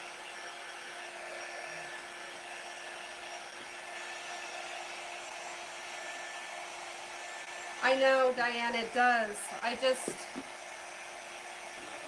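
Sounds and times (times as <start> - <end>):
handheld electric dryer running: 0.0 - 12.0.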